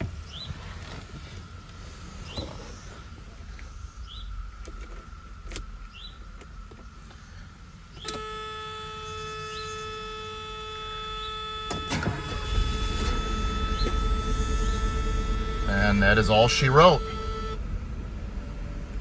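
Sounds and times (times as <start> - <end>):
car engine idling: 0.0 - 19.0
steady electric whine: 2.9 - 18.6.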